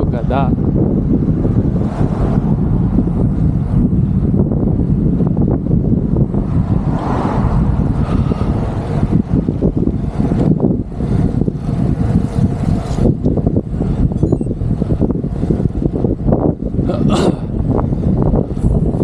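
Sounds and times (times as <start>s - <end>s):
road noise: 0.0s - 19.0s
wind rumbling on microphone: 0.0s - 19.0s.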